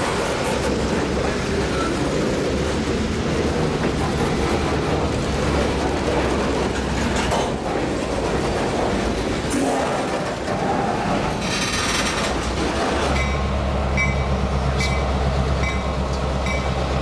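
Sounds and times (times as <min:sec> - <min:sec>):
steel wheels rolling on rails: 0:00.0 - 0:17.0.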